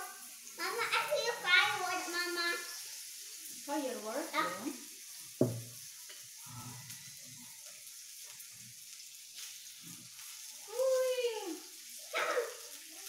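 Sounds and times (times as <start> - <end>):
beef sizzling on grill: 0.0 - 13.0.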